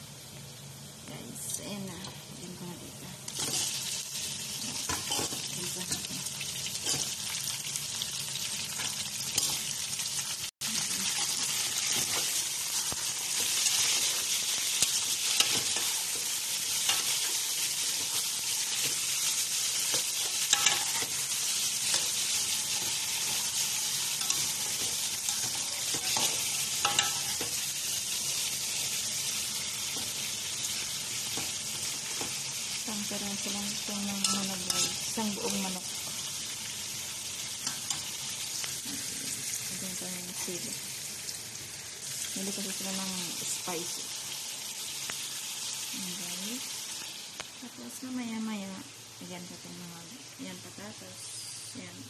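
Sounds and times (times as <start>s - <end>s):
chicken sizzling in oil: 3.3s - 50.9s.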